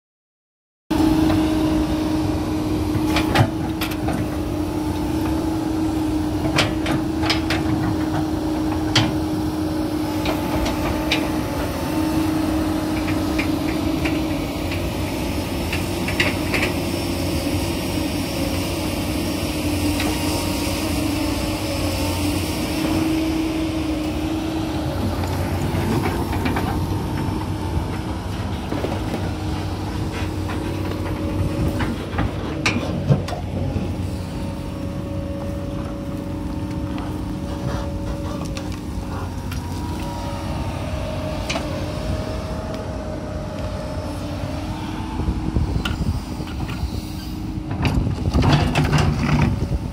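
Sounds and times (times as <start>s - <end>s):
excavator diesel engine drone: 0.9s - 49.9s.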